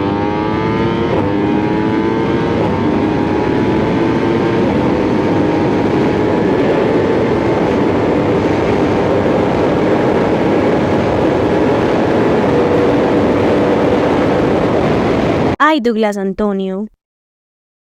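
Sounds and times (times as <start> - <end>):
motorcycle engine revving: 0.0 - 15.6
wind noise on microphone: 1.0 - 15.6.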